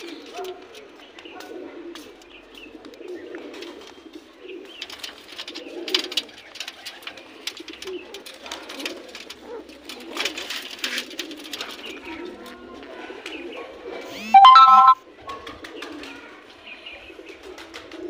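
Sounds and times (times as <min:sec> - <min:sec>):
pigeons cooing: 0:00.0 - 0:14.1, 0:15.1 - 0:18.0.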